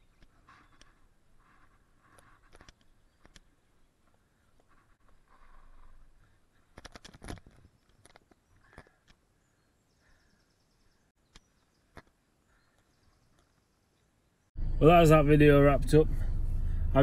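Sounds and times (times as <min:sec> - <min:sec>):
faint bird chirps: 0:00.0 - 0:06.8, 0:07.6 - 0:14.8.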